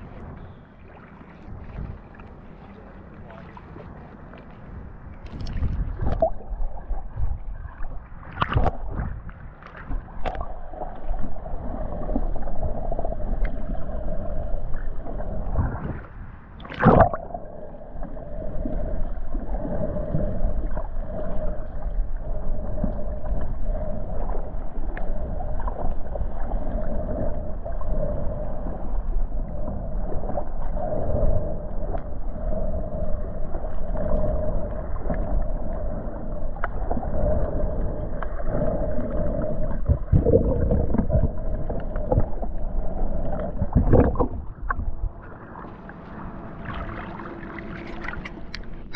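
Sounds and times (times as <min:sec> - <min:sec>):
steady hum: 0:00.0 - 0:09.3, 0:10.0 - 0:48.9
water gurgling underwater: 0:05.2 - 0:48.9.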